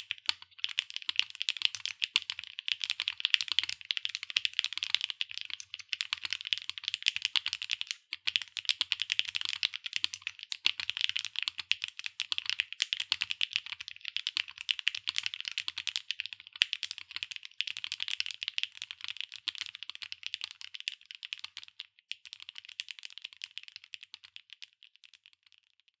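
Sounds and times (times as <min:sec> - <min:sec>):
fast typing on mechanical keyboard: 0:00.0 - 0:25.6.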